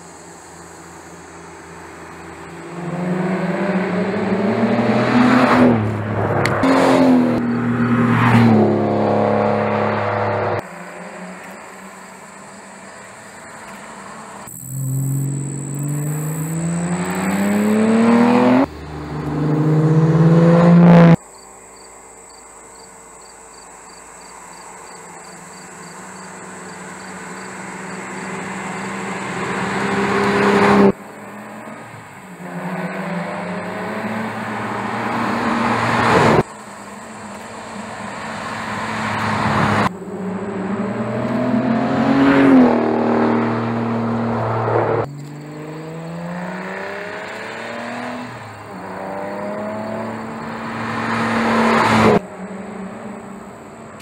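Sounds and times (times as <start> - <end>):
car engine accelerating past: 2.4 - 21.2, 25.9 - 54.0.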